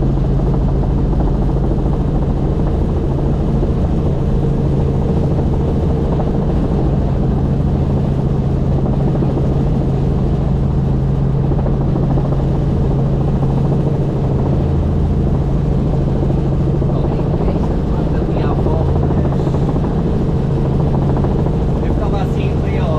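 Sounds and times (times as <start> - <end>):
helicopter engine and rotor: 0.0 - 22.9.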